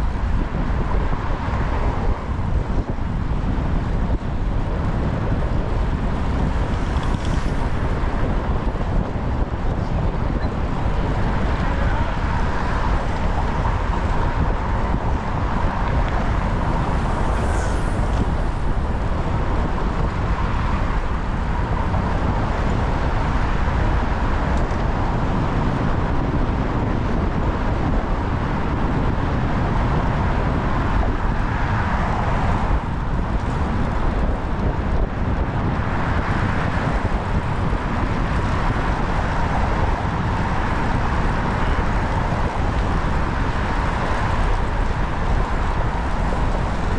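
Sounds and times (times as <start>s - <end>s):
cars passing: 0.0s - 46.9s
road noise: 0.0s - 46.9s
wind rushing on microphone: 0.0s - 46.9s.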